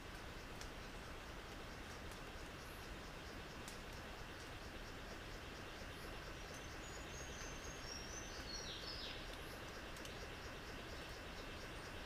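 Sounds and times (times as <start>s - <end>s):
insect hiss: 0.0s - 12.0s.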